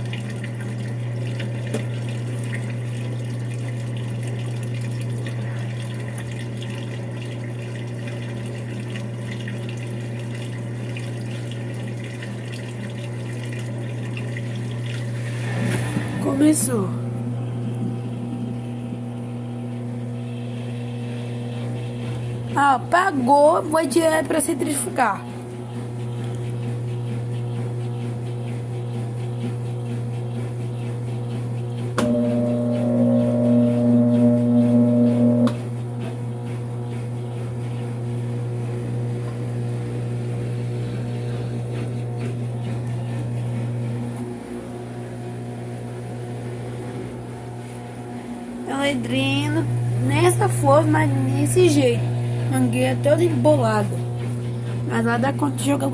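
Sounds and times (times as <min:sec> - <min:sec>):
spin cycle motor whine: 0:00.0 - 0:55.9
water running in washing machine: 0:00.0 - 0:55.9.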